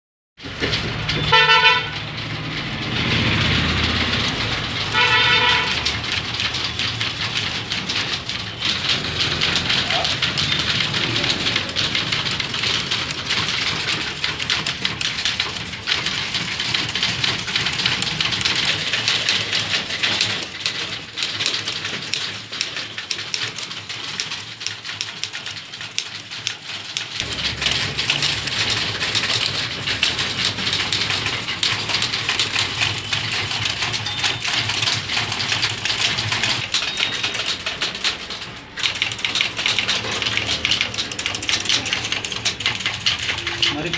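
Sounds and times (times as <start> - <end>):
typewriters clattering: 0.4 - 43.9.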